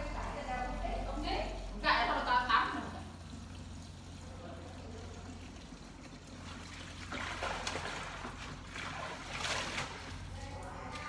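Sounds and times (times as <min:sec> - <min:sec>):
low steady hum: 0:00.0 - 0:11.0
water trickling and splashing: 0:00.0 - 0:11.0.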